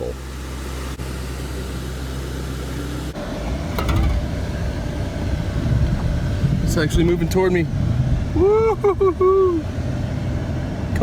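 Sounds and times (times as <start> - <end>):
car cabin hum: 0.0 - 11.0
loud rough low rumble: 1.0 - 11.0.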